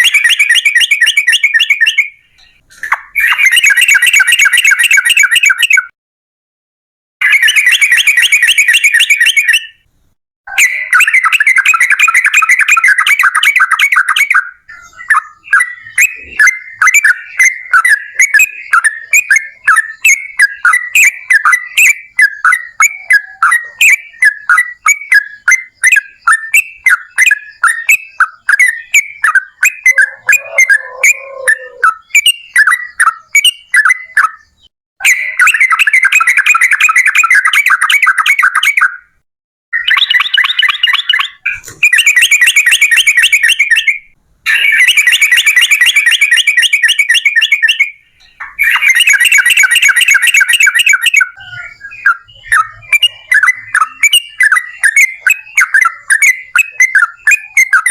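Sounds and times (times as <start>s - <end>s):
bird chirping and trilling: 0.0s - 5.9s, 7.2s - 39.1s, 39.8s - 57.9s.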